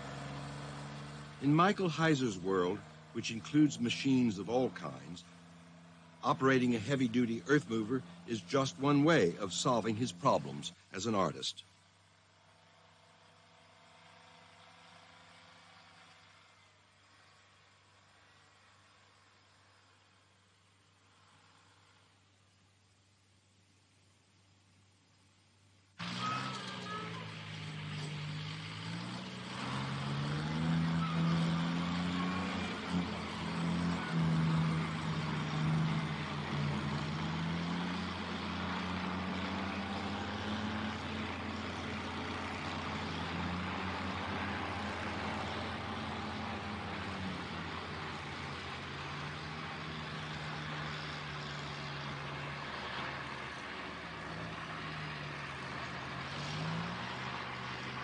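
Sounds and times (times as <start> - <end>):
diesel engine revving: 0.0 - 11.4, 12.3 - 17.6, 26.0 - 58.0.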